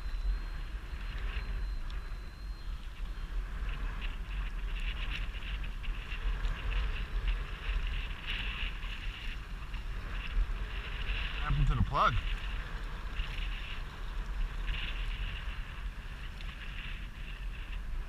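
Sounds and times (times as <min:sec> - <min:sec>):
crackling hiss: 0:00.0 - 0:18.0
water splashing against jet ski: 0:00.0 - 0:18.0
wind rumbling on microphone: 0:00.0 - 0:18.0.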